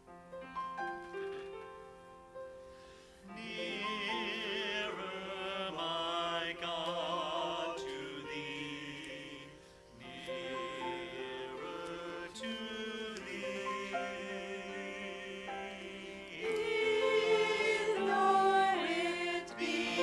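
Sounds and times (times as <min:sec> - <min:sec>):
piano accompaniment: 0:00.0 - 0:20.0.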